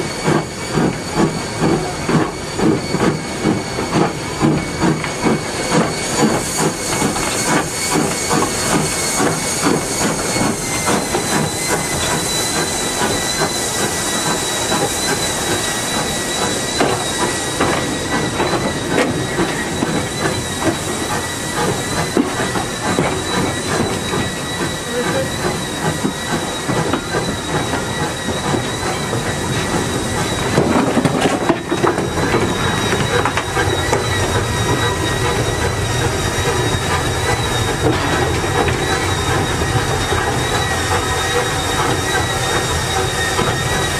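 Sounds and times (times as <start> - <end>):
steam escaping: 0.0 - 43.9
steam locomotive running: 0.0 - 43.9.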